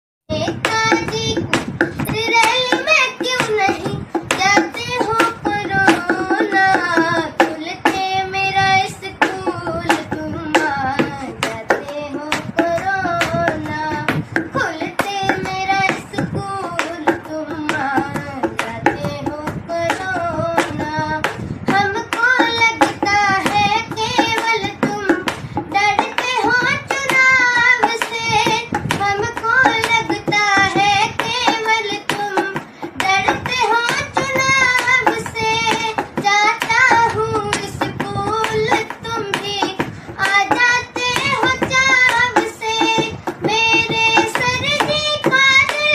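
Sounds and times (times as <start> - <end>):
child singing: 0.3 - 45.9
hand strikes beat: 0.3 - 45.9.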